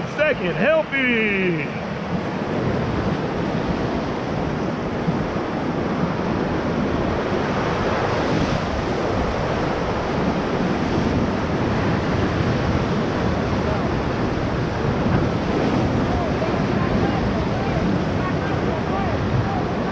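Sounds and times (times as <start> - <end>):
whitewater rapids rushing: 0.0 - 19.9.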